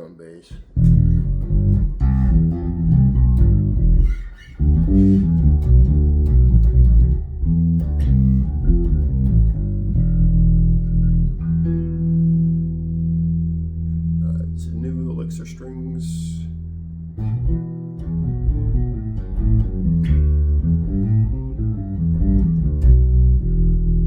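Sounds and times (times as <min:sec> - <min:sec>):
plucked bass guitar notes: 0:00.5 - 0:24.0.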